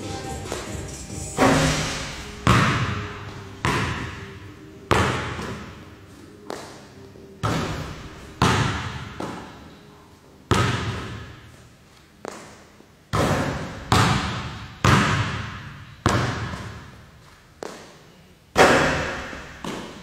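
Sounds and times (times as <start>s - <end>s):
basketball bouncing in a hall: 0.0s - 9.8s, 10.5s - 20.0s.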